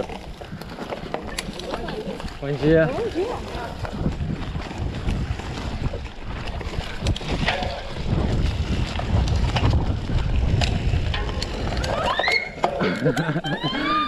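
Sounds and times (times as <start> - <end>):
wind buffeting microphone: 0.0 - 12.6
bike clicks and rattles: 0.0 - 13.8.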